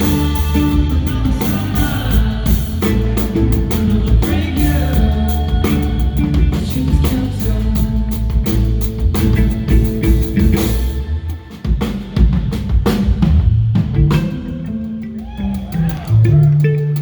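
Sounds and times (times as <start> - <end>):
drum kit beat: 0.0 - 17.0
live band playing: 0.0 - 17.0.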